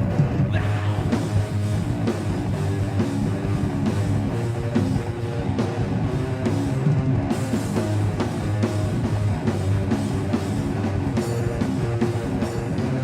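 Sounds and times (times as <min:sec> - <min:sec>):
bass guitar: 0:00.0 - 0:13.0
distorted electric guitars: 0:00.0 - 0:13.0
drum kit: 0:00.0 - 0:13.0.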